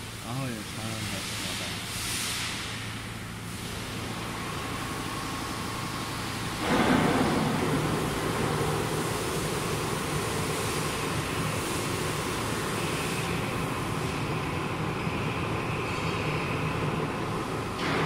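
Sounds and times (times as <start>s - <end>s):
machinery low hum: 0.0s - 18.0s.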